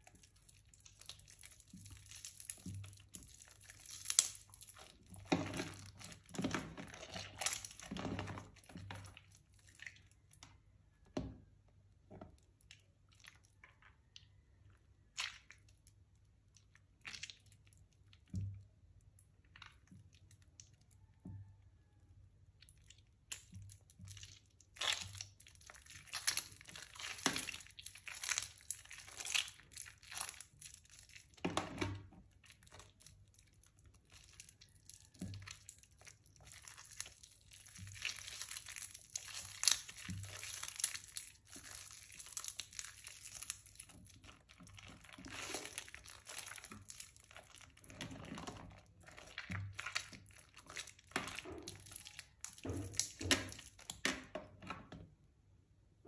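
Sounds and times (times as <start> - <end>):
soft soap crunching and crumbling: 0.0 - 11.1, 11.7 - 54.9.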